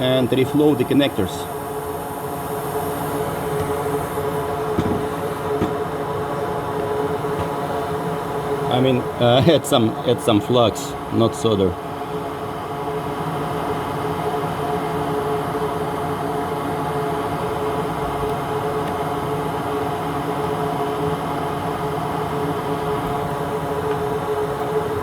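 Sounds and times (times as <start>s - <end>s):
hot air station blowing with hum: 0.0s - 25.0s.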